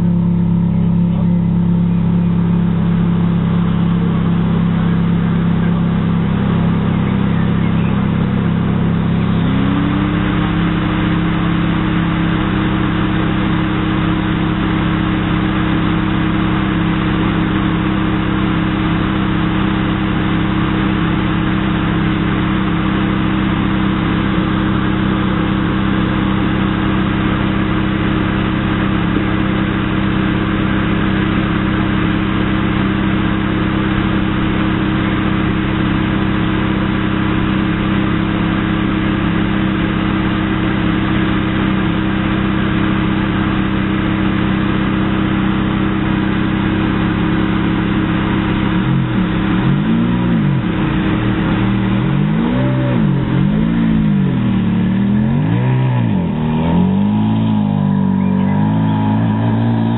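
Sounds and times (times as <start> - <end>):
car engine idling: 0.0 - 59.9
high hum rising in pitch: 0.0 - 59.9.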